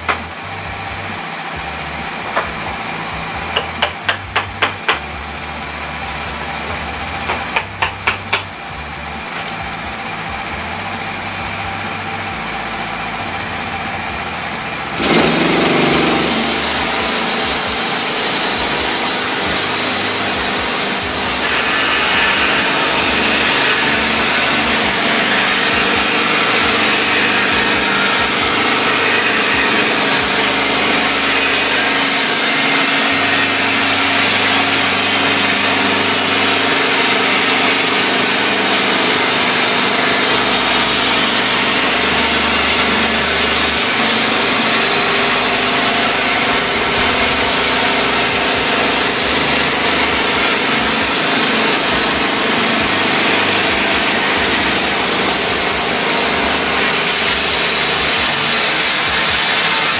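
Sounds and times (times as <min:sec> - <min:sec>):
band saw cutting wood: 0:00.0 - 0:59.9.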